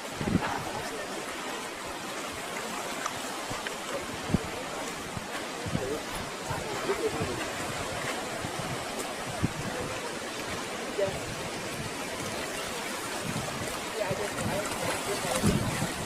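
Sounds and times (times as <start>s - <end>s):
ocean surf rushing: 0.0s - 16.0s.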